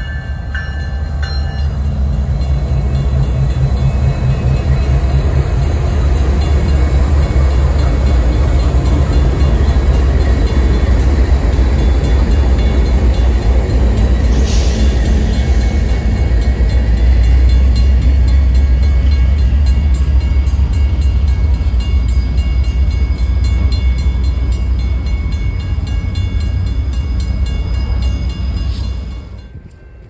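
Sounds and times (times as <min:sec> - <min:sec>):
freight train rolling past: 0:00.0 - 0:30.0
grade-crossing bell ringing: 0:00.0 - 0:30.0.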